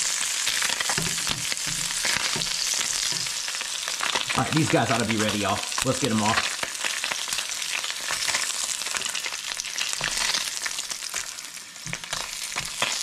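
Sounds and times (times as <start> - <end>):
fish sizzling in butter: 0.0 - 13.0.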